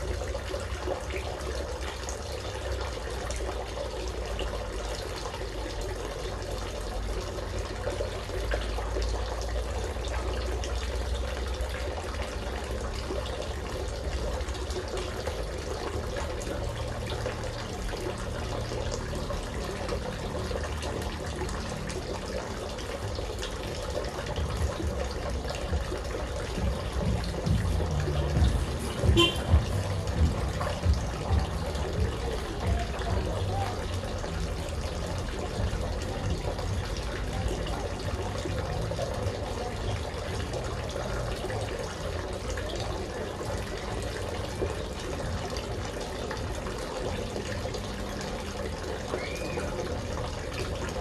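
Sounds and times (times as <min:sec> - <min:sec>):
water falling and splashing: 0:00.0 - 0:51.0.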